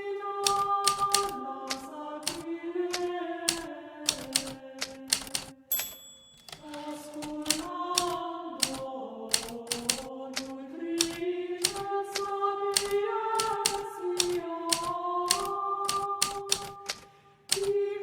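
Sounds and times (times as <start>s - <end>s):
typewriter keys clacking: 0.4s - 17.7s.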